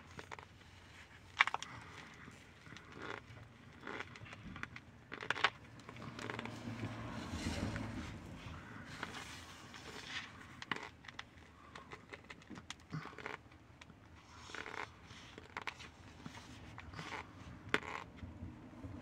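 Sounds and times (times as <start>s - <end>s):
dry powder crunching and squeaking: 0.0s - 18.1s.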